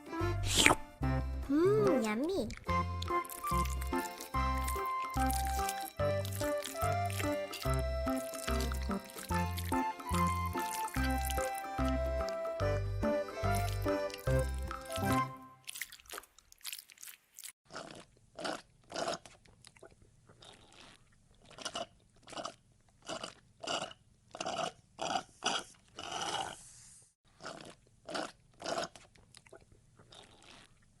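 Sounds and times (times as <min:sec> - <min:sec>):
monkey chewing crunchy fruit: 0:01.8 - 0:12.5, 0:13.3 - 0:26.2, 0:27.3 - 0:31.0.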